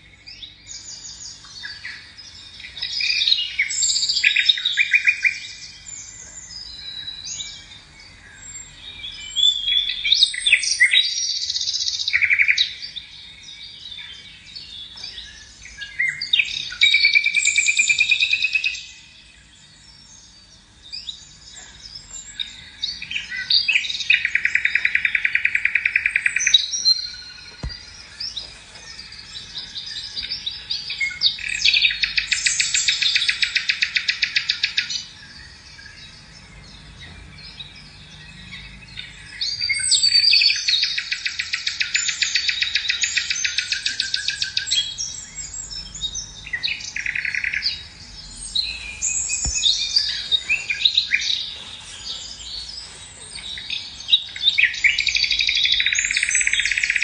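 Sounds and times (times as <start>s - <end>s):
songbird chirping and trilling: 0.0s - 57.0s.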